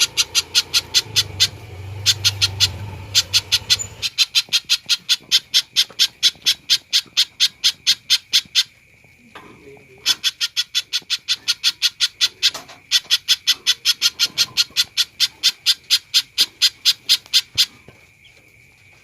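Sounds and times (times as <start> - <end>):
bird calling sharp chips: 0.0 - 9.0, 9.8 - 19.0.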